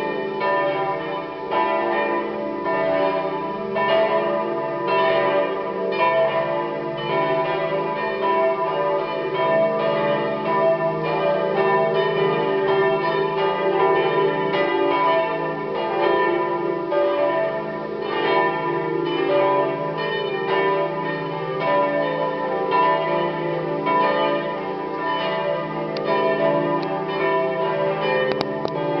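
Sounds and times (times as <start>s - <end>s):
church bells ringing in a peal: 0.0s - 29.0s.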